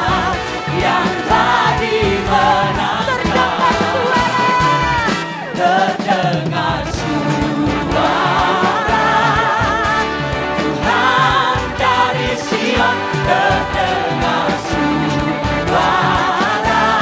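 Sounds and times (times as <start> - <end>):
band with drums: 0.0 - 17.0
congregation singing praise song: 0.0 - 17.0.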